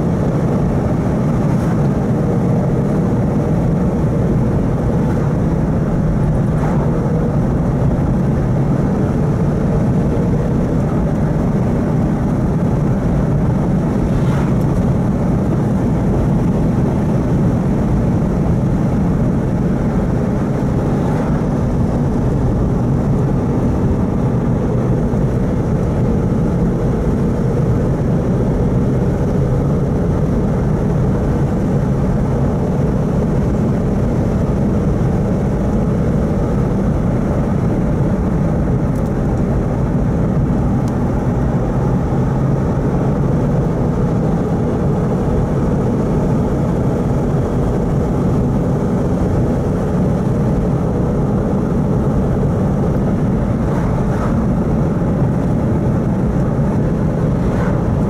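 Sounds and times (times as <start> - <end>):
car interior road rumble: 0.0 - 58.0.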